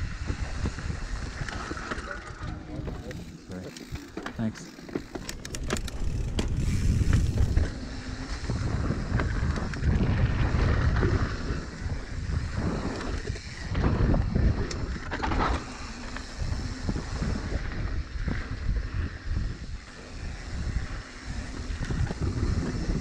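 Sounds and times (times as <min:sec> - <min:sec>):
wind on microphone: 0:00.0 - 0:03.2, 0:05.2 - 0:23.0
bike rolling on dirt trail: 0:00.0 - 0:23.0.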